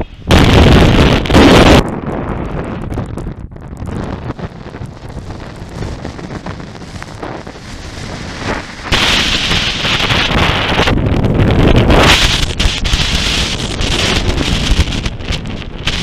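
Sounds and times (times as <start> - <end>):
wind roaring and buffeting microphone: 0.0 - 16.0.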